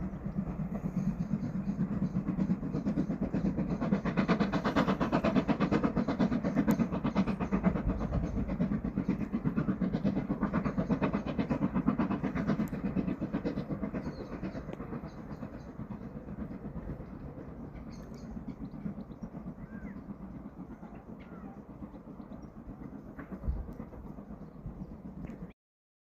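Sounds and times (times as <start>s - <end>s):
steam train running: 0.0s - 25.5s.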